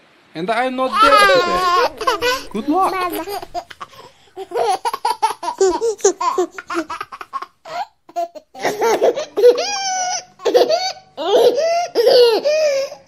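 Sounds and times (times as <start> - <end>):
young child laughing: 0.9 - 12.6.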